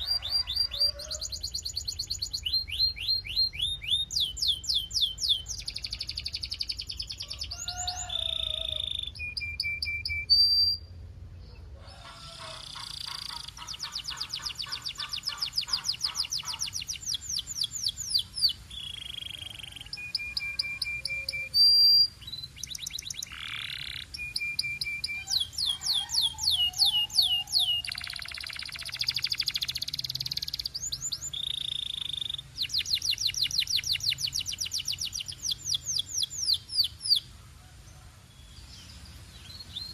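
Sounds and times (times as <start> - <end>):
canary singing trills: 0.0 - 37.4.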